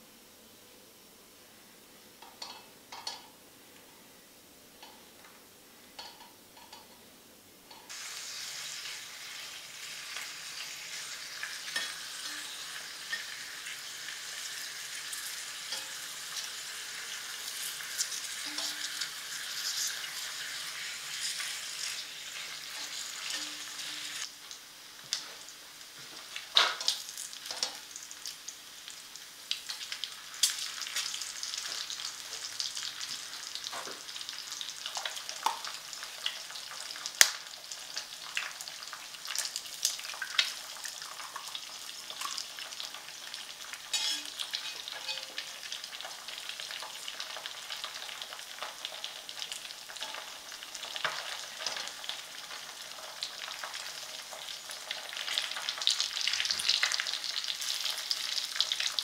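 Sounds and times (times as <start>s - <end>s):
bacon and eggs sizzling: 2.2s - 3.4s, 6.0s - 6.9s, 7.7s - 59.0s.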